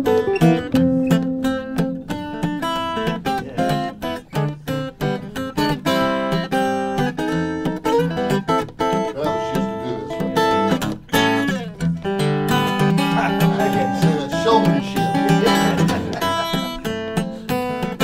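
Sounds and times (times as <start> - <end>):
acoustic guitar fingerpicking: 0.0 - 18.0.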